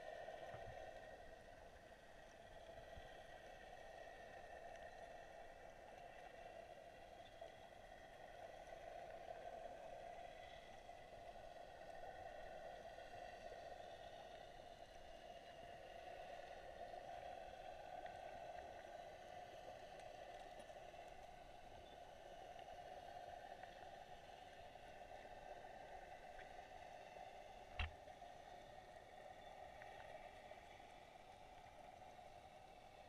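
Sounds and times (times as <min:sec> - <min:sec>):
faint underwater hum: 0:00.0 - 0:33.0.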